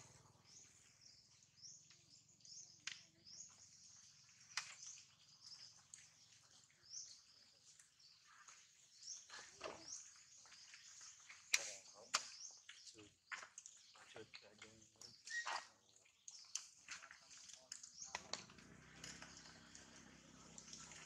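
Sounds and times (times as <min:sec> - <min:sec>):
faint small bird chirps: 0:00.0 - 0:21.0.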